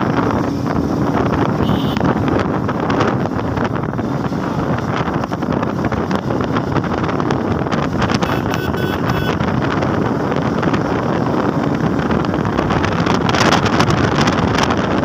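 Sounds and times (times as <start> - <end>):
motorcycle engine cruising: 0.0 - 15.0
wind noise on microphone: 0.0 - 15.0.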